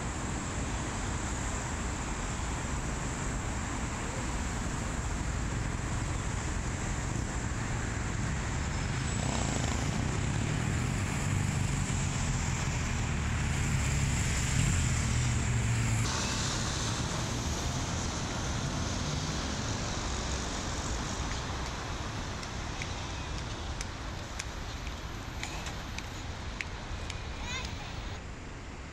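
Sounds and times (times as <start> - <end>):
cars passing on busy road: 0.0 - 28.9.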